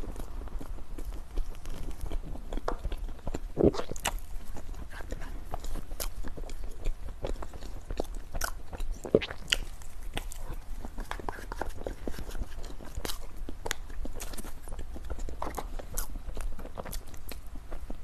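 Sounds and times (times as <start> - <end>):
crisp chewing crunches: 0.0 - 18.0.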